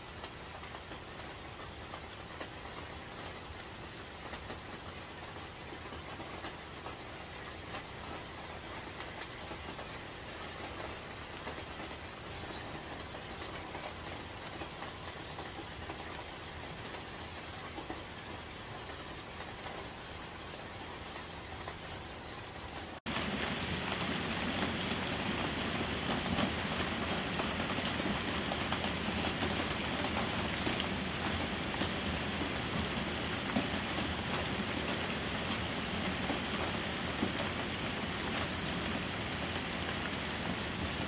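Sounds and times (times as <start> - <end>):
heavy rain on roof: 0.0 - 41.0.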